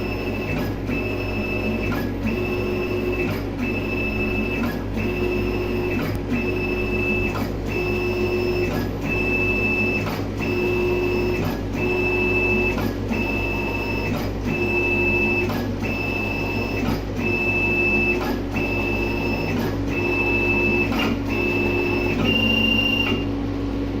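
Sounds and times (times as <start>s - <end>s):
machine motors whining: 0.0s - 23.4s.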